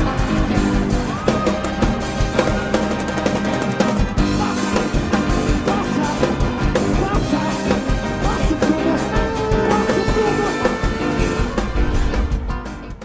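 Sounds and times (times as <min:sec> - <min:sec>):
drum kit beat: 0:00.0 - 0:13.0
keyboard chords: 0:00.0 - 0:13.0.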